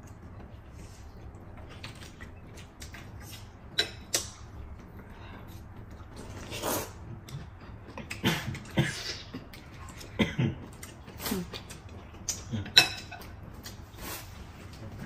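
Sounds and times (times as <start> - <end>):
mouth and chewing noises: 0.0 - 15.0.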